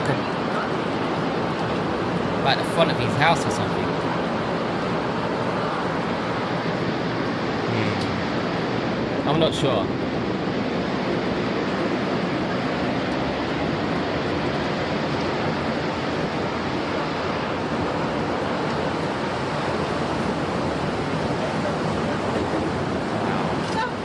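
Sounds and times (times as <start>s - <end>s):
heavy rain: 0.0s - 24.0s
storm wind on microphone: 0.0s - 24.0s.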